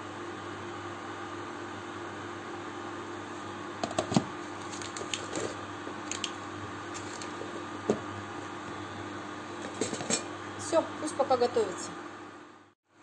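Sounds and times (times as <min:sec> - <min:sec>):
induction hob hum: 0:00.0 - 0:13.0.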